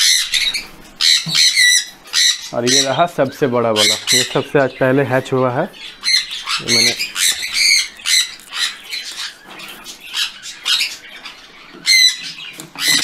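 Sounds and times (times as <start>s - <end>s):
parrots squawking: 0.0s - 13.0s.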